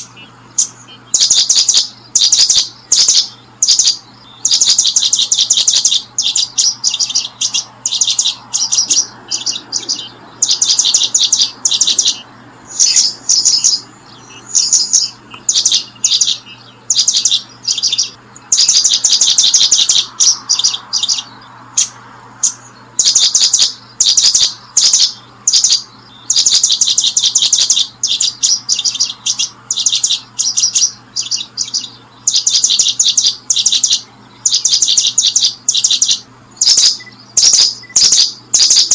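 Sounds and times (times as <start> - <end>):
bird chirping in trills: 0.0 - 38.9.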